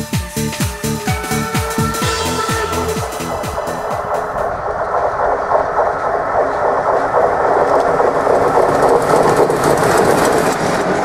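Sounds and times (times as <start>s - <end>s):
steam locomotive exhaust: 0.0s - 11.0s
clatter of train wheels: 2.0s - 11.0s.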